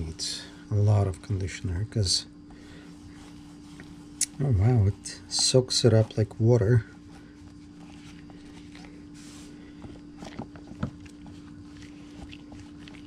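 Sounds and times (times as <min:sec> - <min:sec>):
steady low hum: 0:00.0 - 0:13.0
hands rubbing leather: 0:02.5 - 0:13.0.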